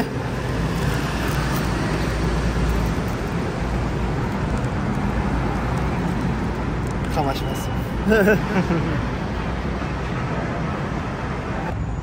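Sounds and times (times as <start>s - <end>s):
passing cars rumble and hiss: 0.0s - 12.0s.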